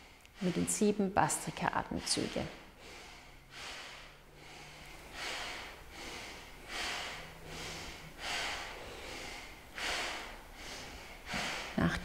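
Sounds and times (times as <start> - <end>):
rapid forceful nose breathing: 0.0 - 12.0.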